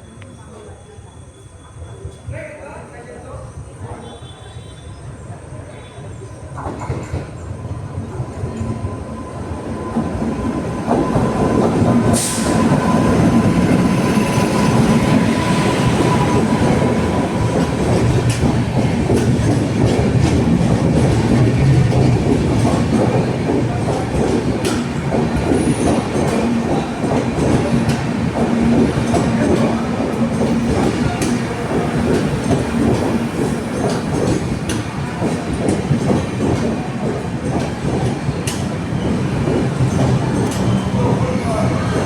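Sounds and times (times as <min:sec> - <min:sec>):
train wheels rumbling on rails: 0:00.3 - 0:42.0.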